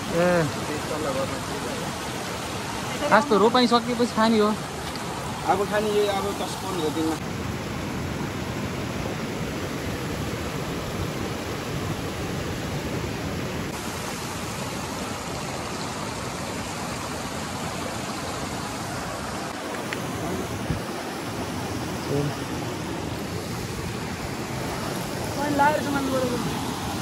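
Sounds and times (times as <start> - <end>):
stream cascading over rocks: 0.0 - 27.0.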